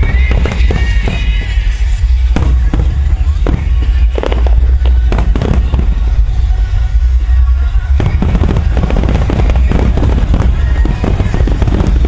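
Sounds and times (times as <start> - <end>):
fireworks booming and crackling: 0.0 - 12.0
music playing: 0.0 - 12.0.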